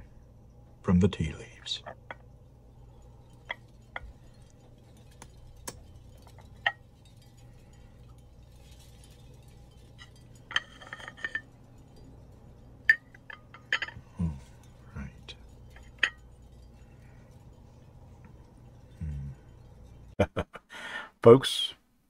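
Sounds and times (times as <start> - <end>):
china and metal clinking on plate: 1.6 - 20.2.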